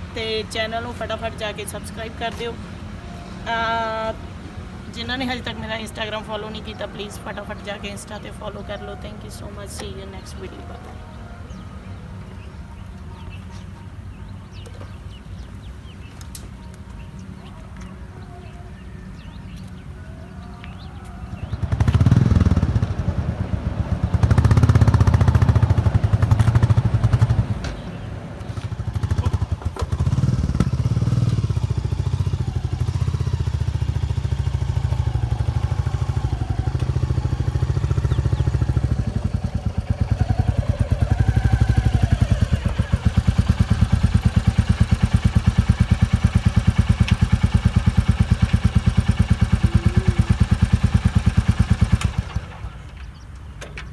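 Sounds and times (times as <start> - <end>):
motorcycle engine revving and idling: 0.0 - 13.5, 14.5 - 53.9.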